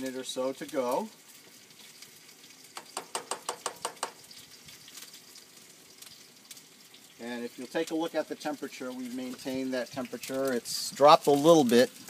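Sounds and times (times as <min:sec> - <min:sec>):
food sizzling on grill: 0:00.0 - 0:12.0.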